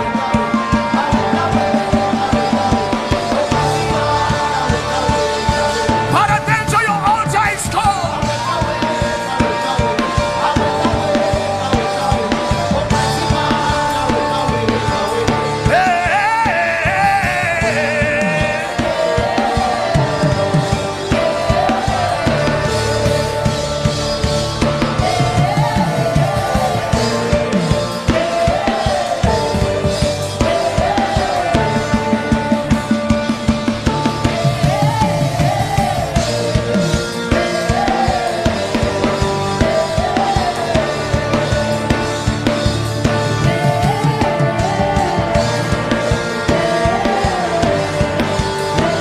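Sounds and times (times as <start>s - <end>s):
drum kit beat: 0.0s - 49.0s
gospel band playing: 0.0s - 49.0s.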